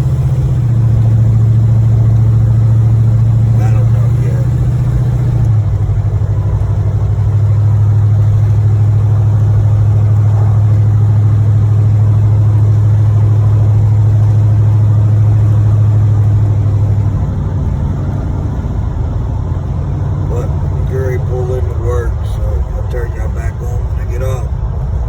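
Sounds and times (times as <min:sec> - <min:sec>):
car engine loud low drone: 0:00.0 - 0:25.0.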